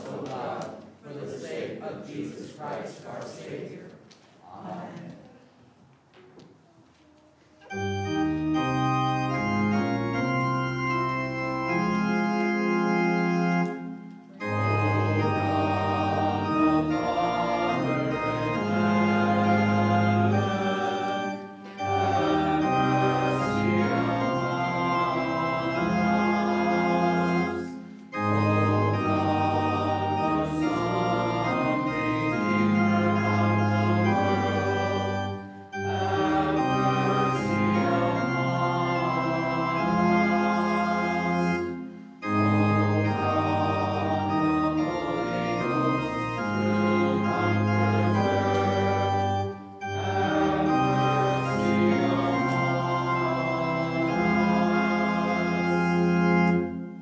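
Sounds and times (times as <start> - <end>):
organ playing sustained chords: 7.6 - 57.0.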